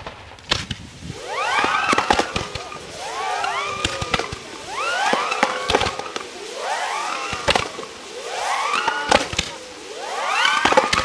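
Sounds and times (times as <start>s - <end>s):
fireworks bangs and crackle: 0.0s - 11.0s
fireworks rising whistles: 0.8s - 11.0s.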